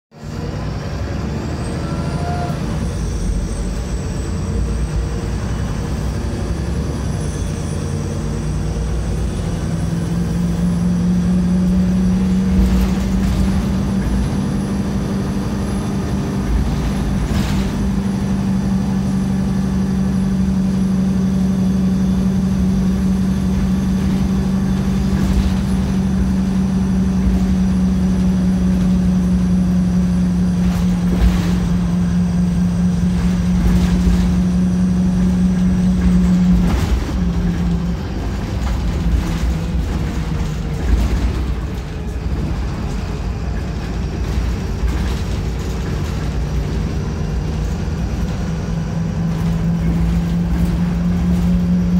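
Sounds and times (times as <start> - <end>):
bus engine hum: 0.1 - 51.9.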